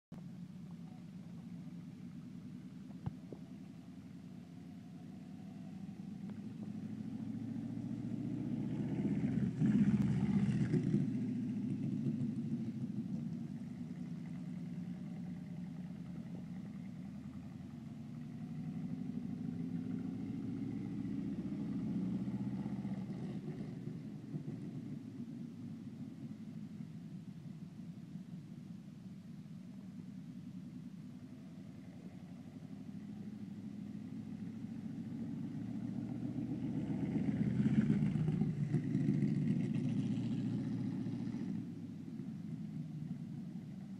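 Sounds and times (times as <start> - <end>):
race car engine passing: 3.6 - 26.8, 31.2 - 43.9.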